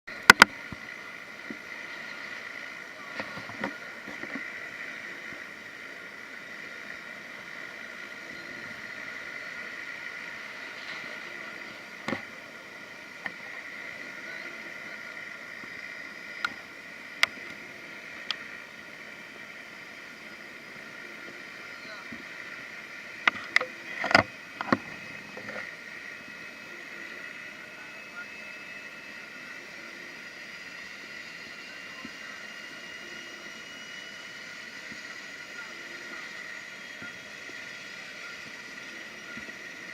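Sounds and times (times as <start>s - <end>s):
propeller engines whining: 0.1s - 39.9s.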